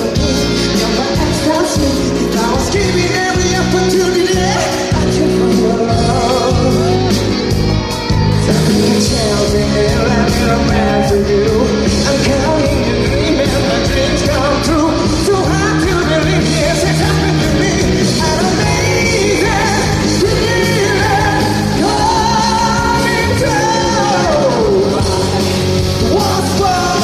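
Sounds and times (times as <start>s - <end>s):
live rock band playing: 0.0s - 27.0s
man singing: 0.0s - 27.0s.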